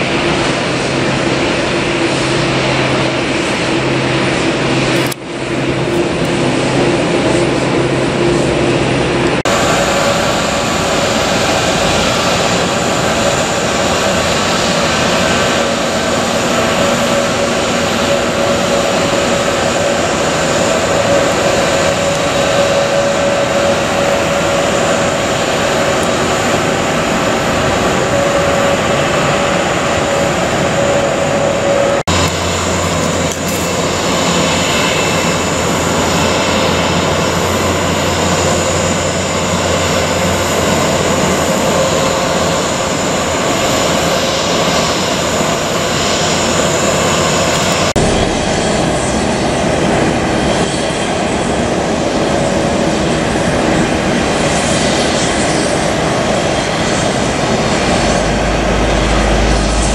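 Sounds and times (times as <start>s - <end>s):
jet engines humming and whining: 0.0s - 59.9s.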